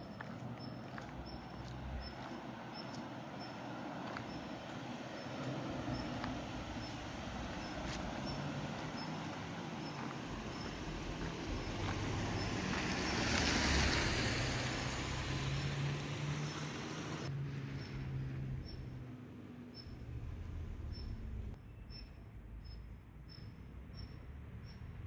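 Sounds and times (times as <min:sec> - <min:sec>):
motor vehicle passing: 0:00.0 - 0:21.6.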